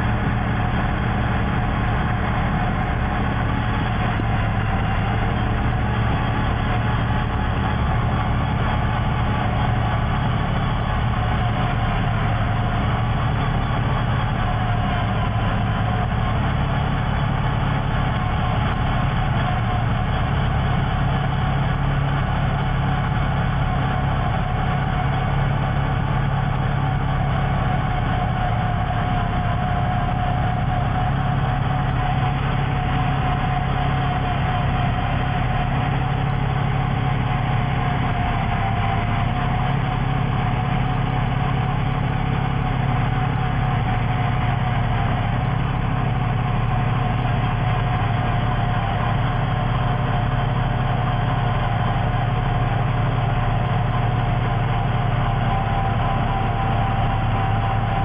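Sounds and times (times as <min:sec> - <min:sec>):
snow blower whine: 0:00.0 - 0:58.0
truck engine droning: 0:00.0 - 0:58.0.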